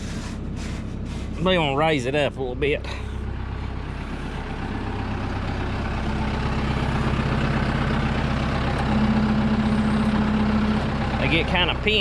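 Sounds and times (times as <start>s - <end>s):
low hum: 0.0s - 12.0s
tractor engine running: 0.0s - 12.0s.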